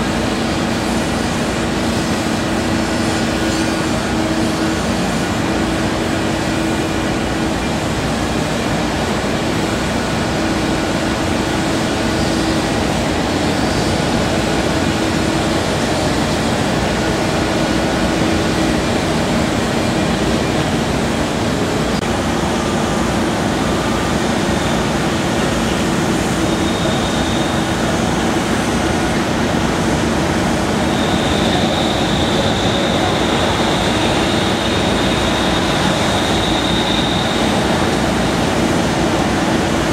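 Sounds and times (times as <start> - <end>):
excavator diesel engine running: 0.0 - 39.9
high whine: 0.0 - 39.9.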